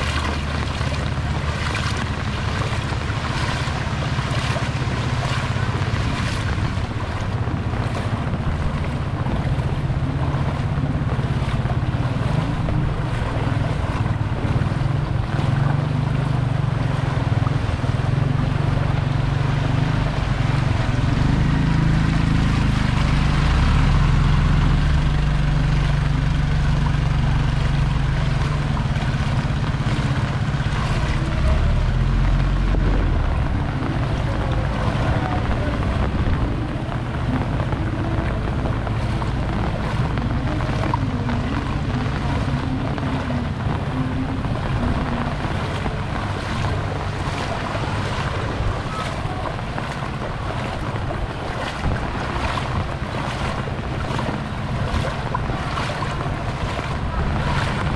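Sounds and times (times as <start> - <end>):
vehicle engine rumble: 0.0 - 57.9
water sloshing and splashing: 0.0 - 57.9.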